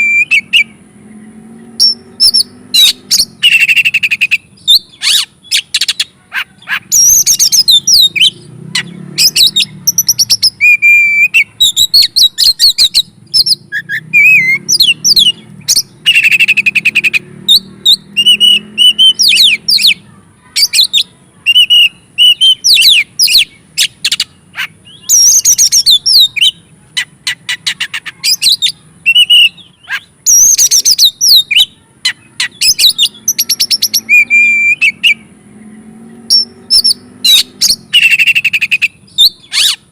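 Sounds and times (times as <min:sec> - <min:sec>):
magpie-robin singing: 0:00.0 - 0:00.8, 0:01.7 - 0:35.3, 0:36.2 - 0:39.9.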